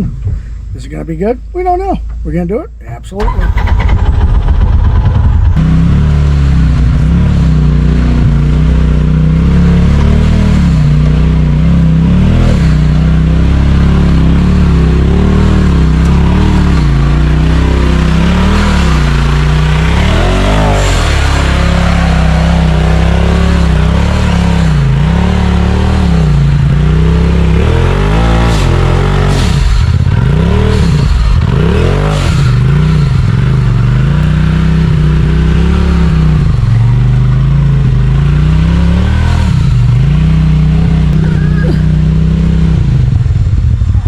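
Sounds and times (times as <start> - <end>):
utv engine revving: 3.1 - 44.0.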